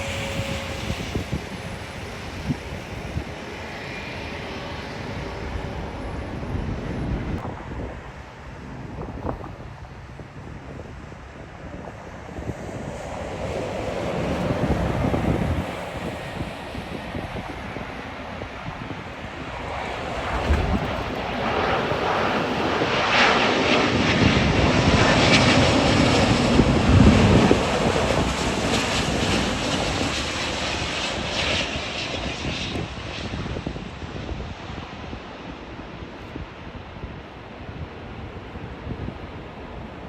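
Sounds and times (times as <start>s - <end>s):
jet airliner passing: 0.0s - 40.0s.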